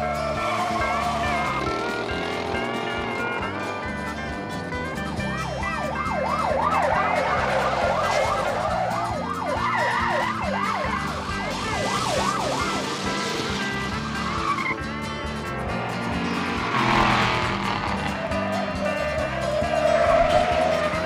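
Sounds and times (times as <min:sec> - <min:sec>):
police siren yelp: 0:00.0 - 0:15.0, 0:16.4 - 0:21.0
background music: 0:00.0 - 0:21.0.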